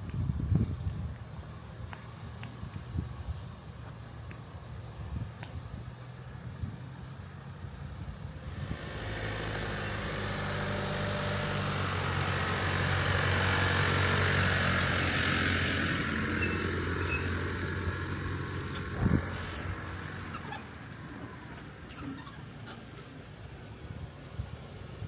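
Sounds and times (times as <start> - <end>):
tyre and road noise: 0.0 - 25.0
vehicle engine hum: 0.0 - 25.0.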